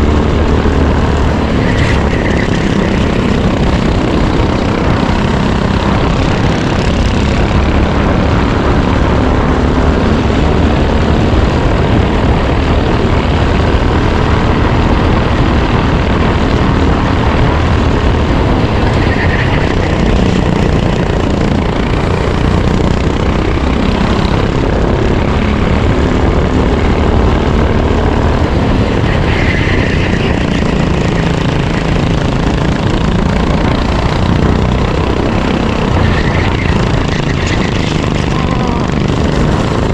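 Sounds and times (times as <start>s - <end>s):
kart engine running hard: 0.0s - 39.9s
wind and road noise: 0.0s - 39.9s.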